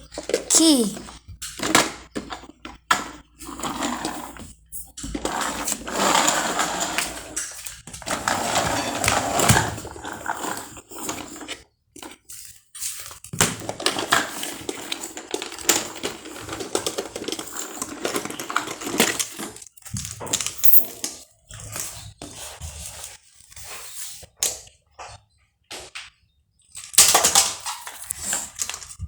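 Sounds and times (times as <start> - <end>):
plastic toys clattering: 0.0 - 22.0, 26.7 - 29.0.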